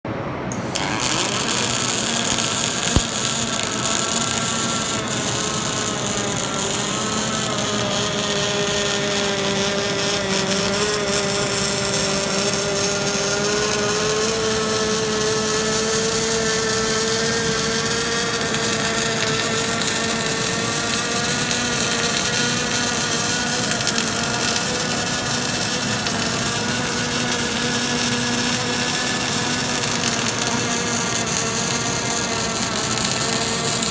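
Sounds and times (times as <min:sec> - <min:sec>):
machine hum: 0:00.1 - 0:33.9.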